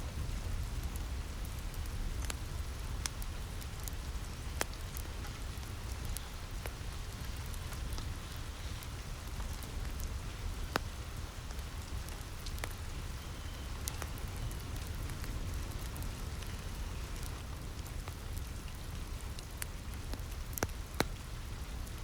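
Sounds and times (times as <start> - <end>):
rain on a roof: 0.0 - 22.0
wood fire crackling: 0.0 - 22.0.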